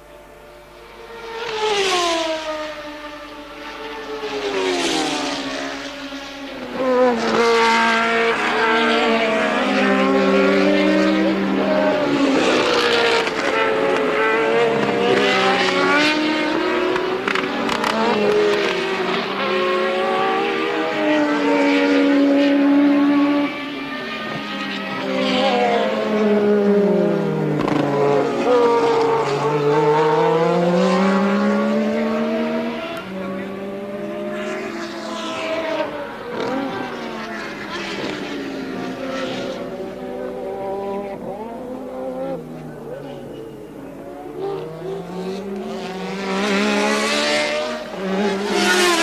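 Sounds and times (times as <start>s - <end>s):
racing cars passing: 0.0s - 49.0s
racing engines changing gear: 0.8s - 49.0s.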